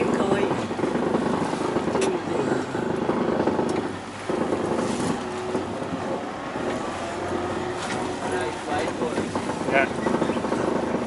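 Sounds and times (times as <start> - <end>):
rumble of motion noise: 0.0 - 11.0
vehicle engine running: 0.0 - 11.0.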